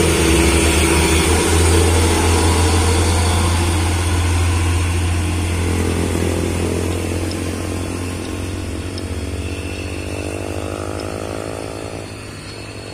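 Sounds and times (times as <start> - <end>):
motorcycle engine accelerating: 0.0 - 12.9
truck diesel engine droning: 0.0 - 12.9.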